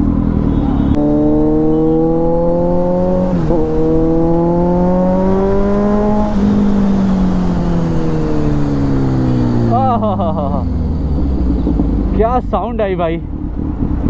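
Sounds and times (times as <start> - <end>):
motorcycle engine accelerating hard: 0.0 - 14.0.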